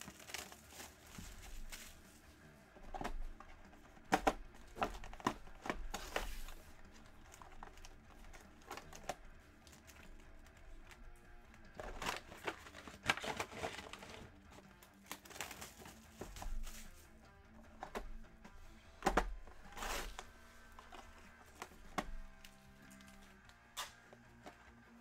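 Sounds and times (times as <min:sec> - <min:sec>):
plastic wrap crinkling: 0:00.0 - 0:02.3, 0:03.0 - 0:17.0, 0:19.1 - 0:23.9
faint background music: 0:00.0 - 0:25.0.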